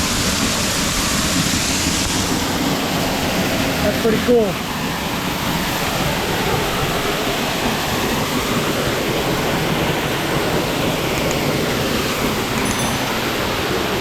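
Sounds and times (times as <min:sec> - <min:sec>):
waterfall pouring: 0:00.0 - 0:14.0.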